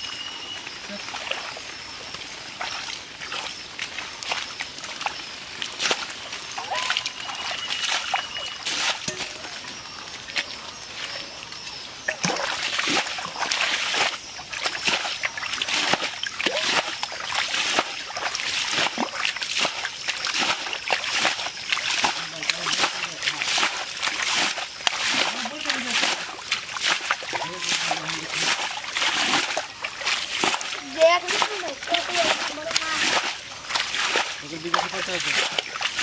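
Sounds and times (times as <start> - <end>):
muddy water splashing: 0.0 - 36.0.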